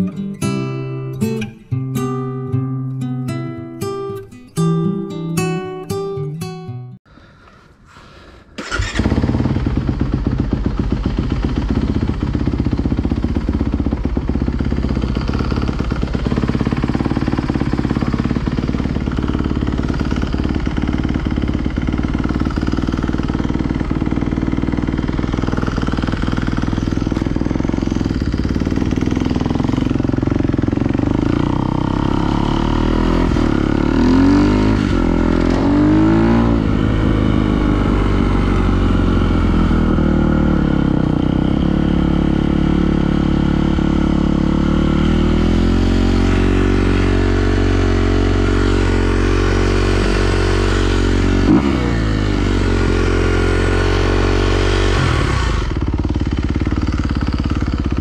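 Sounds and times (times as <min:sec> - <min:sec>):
vehicle engine running: 0:08.6 - 0:58.0.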